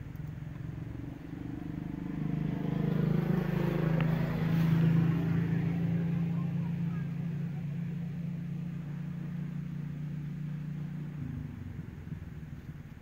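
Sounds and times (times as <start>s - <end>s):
motor engine humming: 0.0s - 13.0s.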